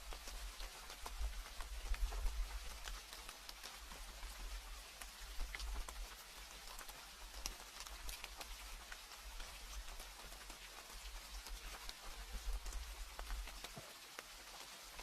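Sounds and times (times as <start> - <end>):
rain falling: 0.0 - 15.0
raindrops ticking on a surface: 0.0 - 15.0.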